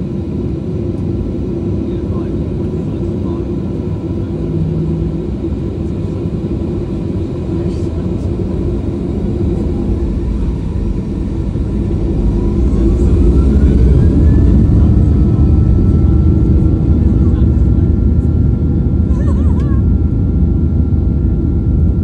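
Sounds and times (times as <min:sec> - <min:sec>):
jet engine spooling up: 0:00.0 - 0:19.1.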